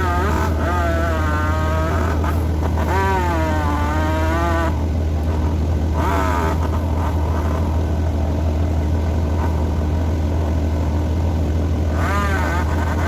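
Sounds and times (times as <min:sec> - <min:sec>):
heavy engine droning: 0:00.0 - 0:13.0.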